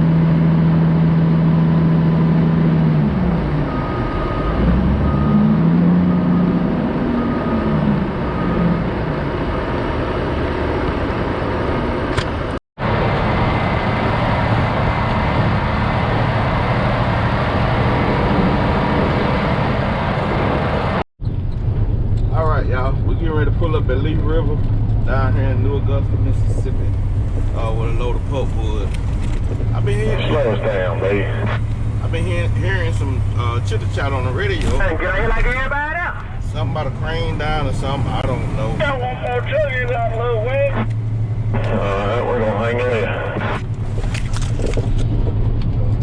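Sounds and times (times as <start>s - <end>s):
truck diesel engine droning: 0.0s - 22.0s, 22.9s - 46.0s
road noise: 0.0s - 46.0s.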